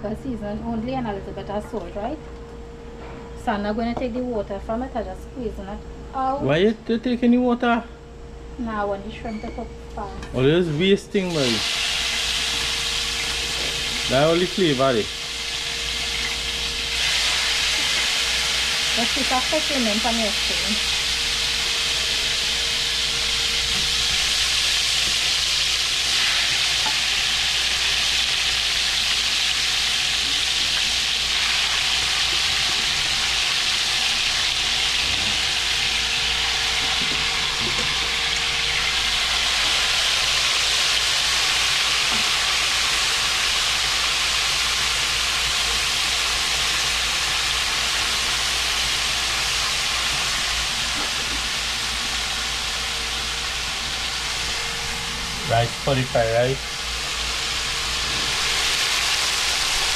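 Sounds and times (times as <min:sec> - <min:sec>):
shrimp sizzling in hot oil: 0:11.2 - 0:59.9.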